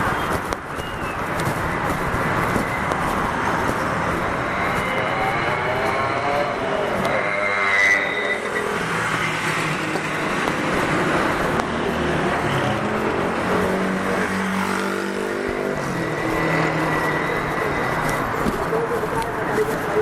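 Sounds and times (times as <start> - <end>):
vehicles passing: 0.0 - 20.0
engine drone: 1.7 - 20.0.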